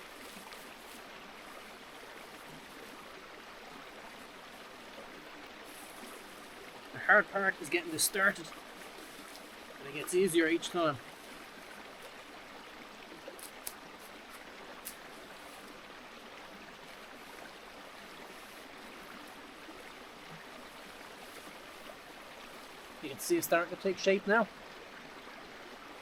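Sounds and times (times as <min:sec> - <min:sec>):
river rushing: 0:00.0 - 0:25.1.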